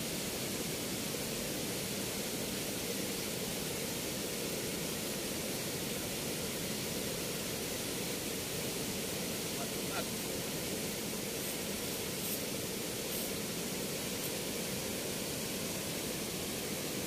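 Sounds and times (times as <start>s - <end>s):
water rushing through sluice gates: 0.0s - 17.0s.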